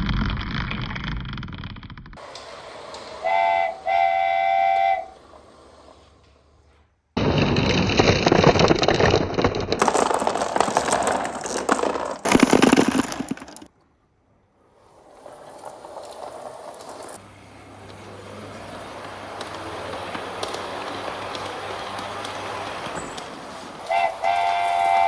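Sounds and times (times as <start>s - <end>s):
marbles rolling on track: 0.0s - 13.7s, 14.8s - 25.0s.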